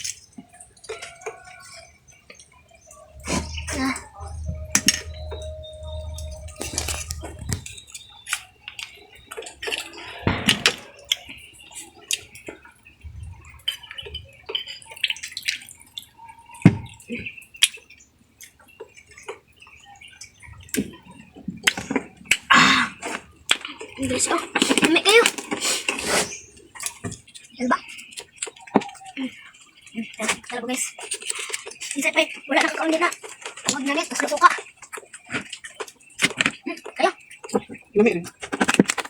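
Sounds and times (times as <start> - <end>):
small wet drips: 6.1 - 38.8.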